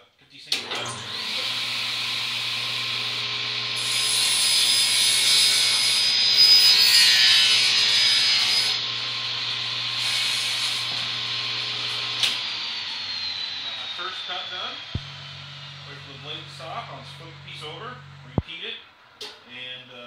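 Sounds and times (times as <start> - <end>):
table saw cutting board: 0.5 - 18.5.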